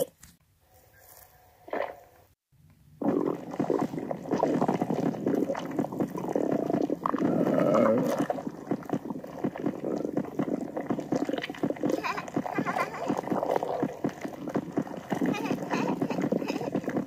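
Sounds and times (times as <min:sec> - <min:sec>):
stomach gurgling: 0:03.0 - 0:17.0.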